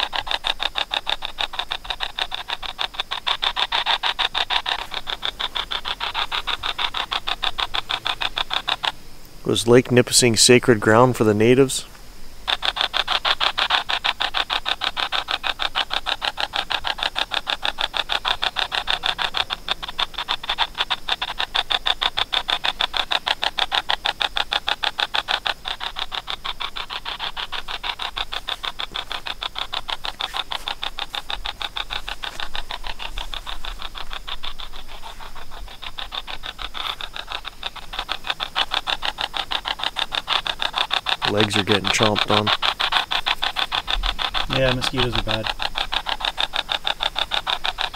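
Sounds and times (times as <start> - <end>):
rapid chopping static: 0.0 - 11.7, 12.3 - 47.9.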